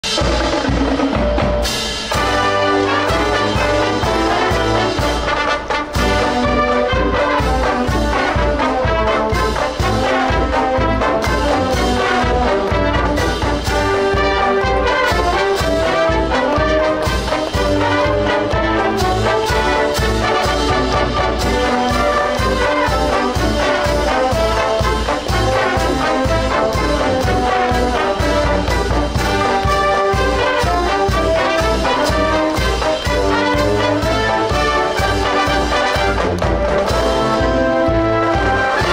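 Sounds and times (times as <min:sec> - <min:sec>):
saxophones and brass playing: 0:00.0 - 0:38.9
steady drum beat: 0:00.0 - 0:38.9.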